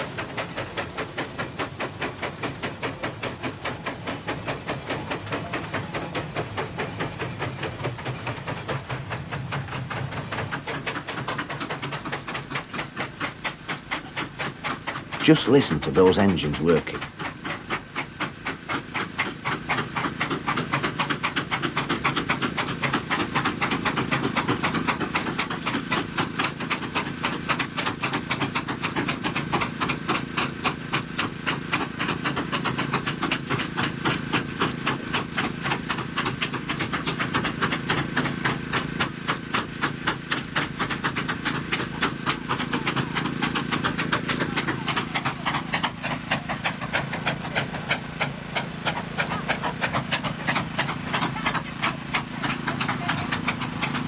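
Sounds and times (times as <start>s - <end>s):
steam engines chuffing: 0.0s - 54.0s
steam hissing: 0.0s - 54.0s.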